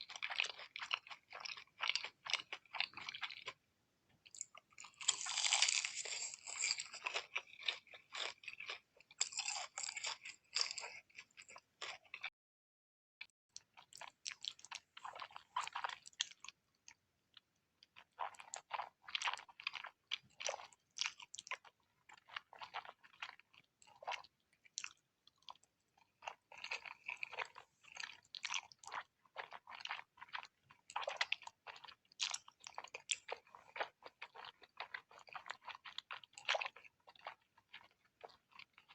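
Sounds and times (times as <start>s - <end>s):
person chewing food: 0.0s - 3.6s, 4.2s - 12.3s, 13.5s - 38.9s.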